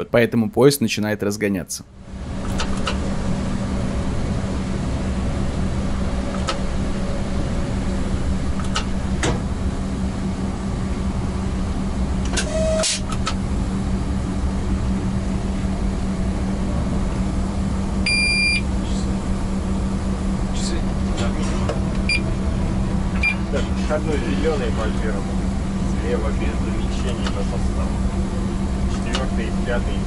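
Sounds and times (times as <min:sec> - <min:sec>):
locomotive electric hum: 0:00.0 - 0:30.0.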